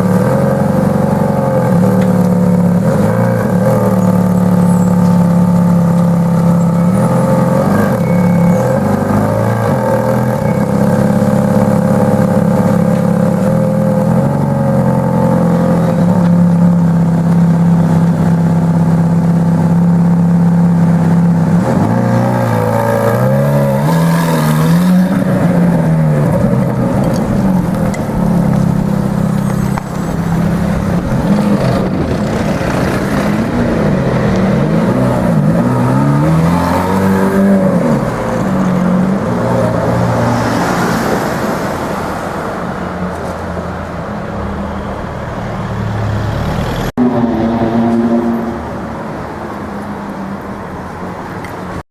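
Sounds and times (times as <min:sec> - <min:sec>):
car engine revving: 0:00.0 - 0:51.4.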